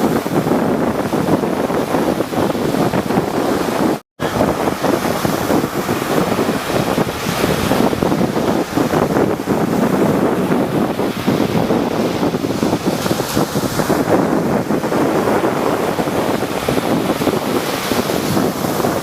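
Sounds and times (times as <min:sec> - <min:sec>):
rough sea waves breaking: 0:00.0 - 0:19.0
wind buffeting microphone: 0:00.0 - 0:19.0.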